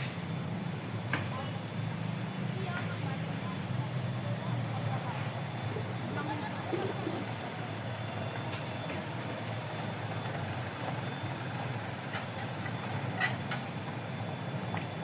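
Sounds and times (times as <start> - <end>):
boat engine running: 0.5 - 15.0.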